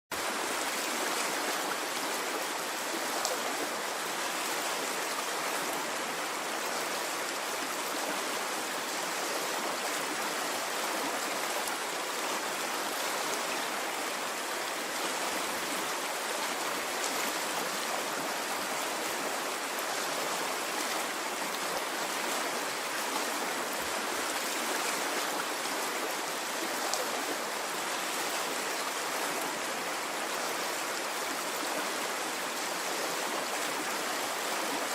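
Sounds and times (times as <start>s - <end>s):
stream water rushing: 0.2s - 34.9s.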